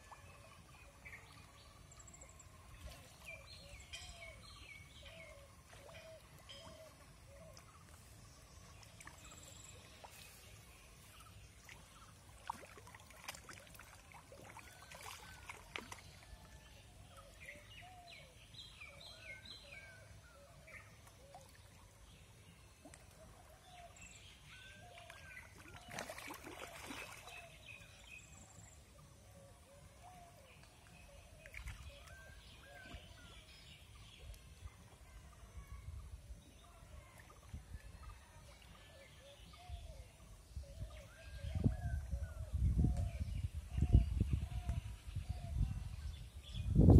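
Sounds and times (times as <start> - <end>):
faint outdoor ambience: 0.0 - 46.9.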